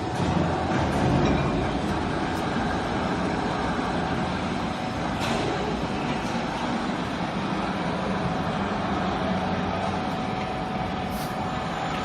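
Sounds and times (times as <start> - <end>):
machine humming with faint whine: 0.0 - 12.0.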